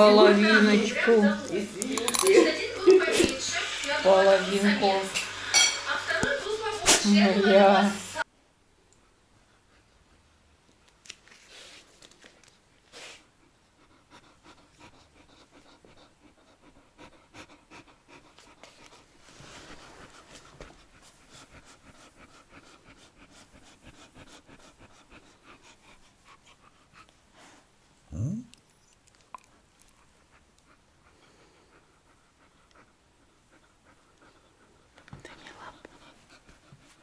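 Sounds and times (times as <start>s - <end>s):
dog panting: 0.0s - 8.2s, 9.0s - 10.7s, 12.8s - 37.0s.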